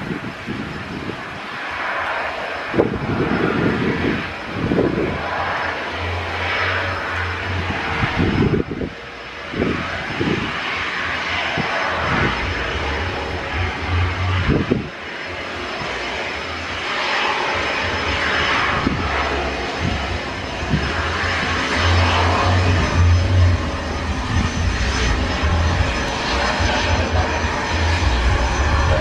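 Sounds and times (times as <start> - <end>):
jet engines whining: 0.0 - 29.0.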